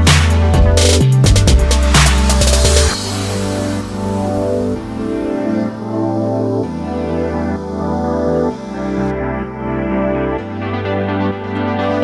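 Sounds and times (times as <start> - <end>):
sustained keyboard chords: 0.0 - 12.0.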